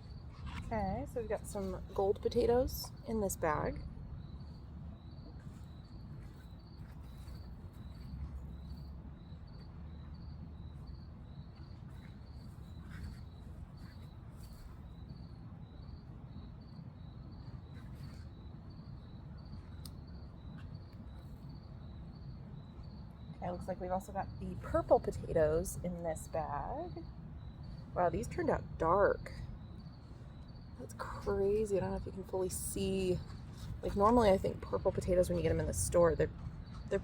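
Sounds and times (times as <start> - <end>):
cricket chirping: 0.0 - 37.0.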